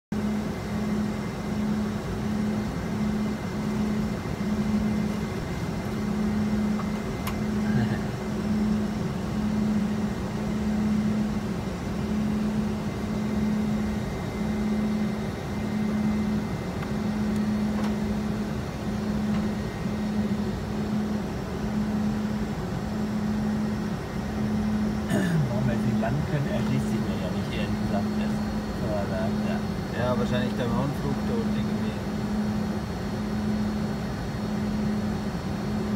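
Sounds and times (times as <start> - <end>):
jet cockpit airflow and engine drone: 0.1 - 35.9
pulsing low hum: 0.1 - 35.9.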